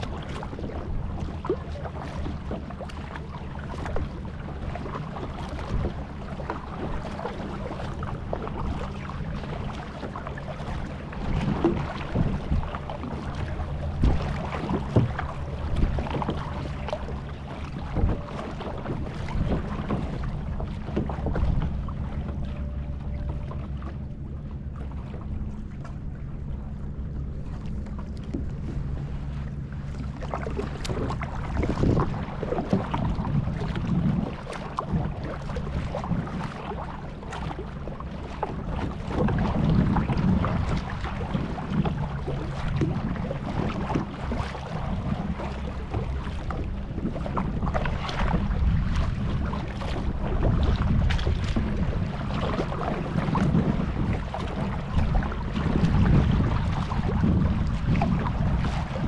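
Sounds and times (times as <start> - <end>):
low steady hum: 0.0 - 59.0
water splashing around a hull: 0.0 - 59.0
wind on microphone: 0.0 - 59.0.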